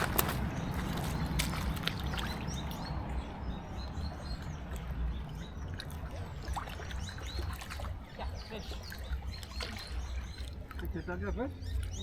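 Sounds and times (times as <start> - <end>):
water trickling: 0.0 - 12.0
bird chirps: 0.4 - 12.0.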